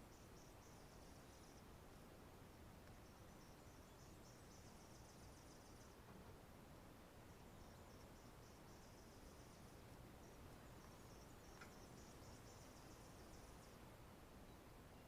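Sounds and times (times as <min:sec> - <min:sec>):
insect chirping: 0:00.0 - 0:06.0, 0:07.2 - 0:13.8
low background hiss: 0:00.0 - 0:15.0.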